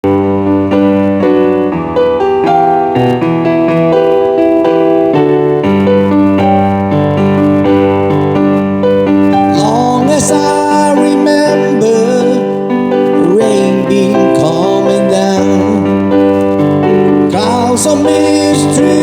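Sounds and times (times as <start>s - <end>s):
sustained keyboard chords: 0.0s - 19.0s.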